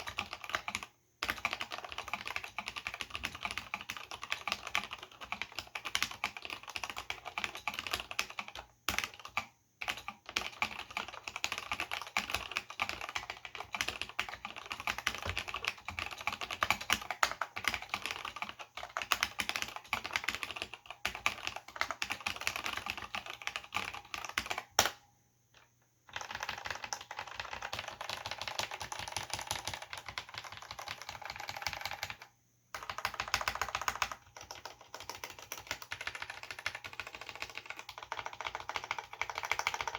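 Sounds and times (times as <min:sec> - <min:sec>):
fast keyboard typing: 0:00.0 - 0:24.9, 0:26.1 - 0:39.9.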